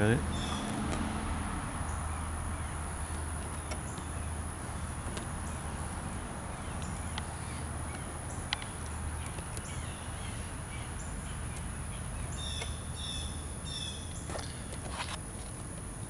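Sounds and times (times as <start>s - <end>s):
bird chirping: 0.0s - 0.8s, 1.8s - 15.2s
low outdoor rumble: 0.0s - 16.0s.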